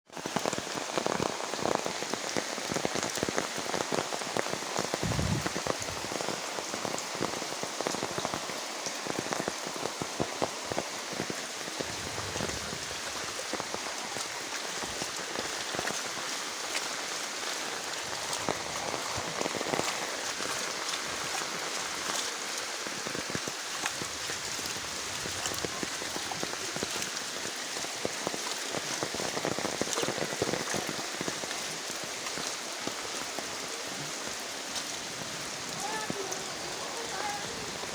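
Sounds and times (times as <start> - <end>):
rain pattering: 0.1 - 37.9.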